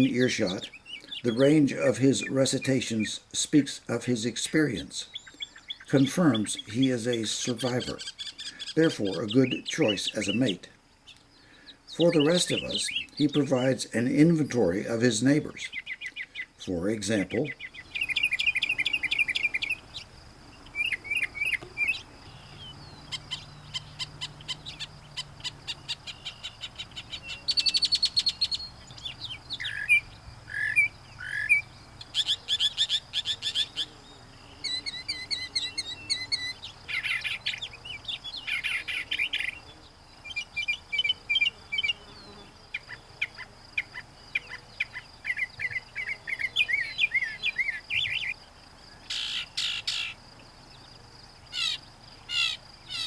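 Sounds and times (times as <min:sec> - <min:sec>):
mockingbird singing: 0:00.0 - 0:53.0.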